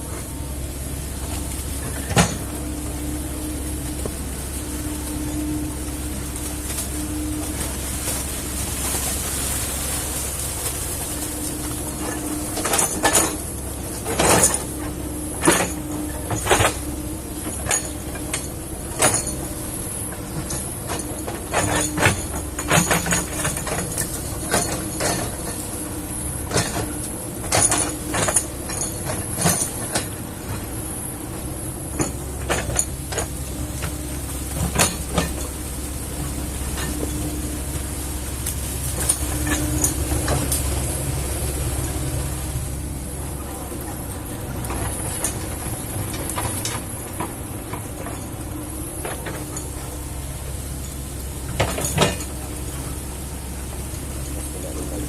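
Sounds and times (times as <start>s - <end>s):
excavator knocks and clanks: 0.0s - 9.7s, 10.4s - 55.0s
excavator diesel engine humming: 0.0s - 55.0s.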